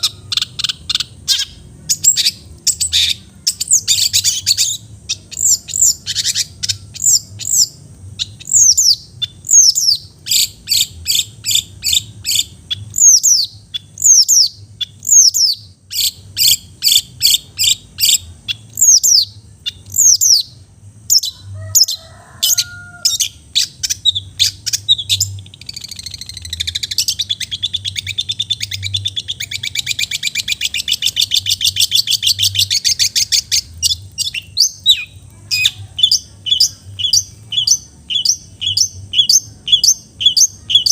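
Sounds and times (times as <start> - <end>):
bird singing sharp trilling notes: 0.0 - 21.4, 22.5 - 40.9.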